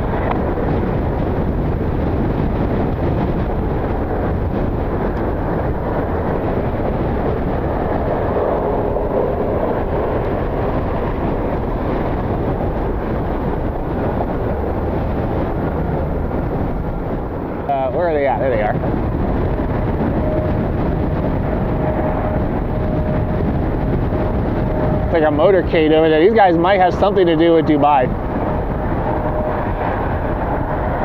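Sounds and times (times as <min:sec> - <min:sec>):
gusty wind buffeting microphone: 0:00.0 - 0:31.0.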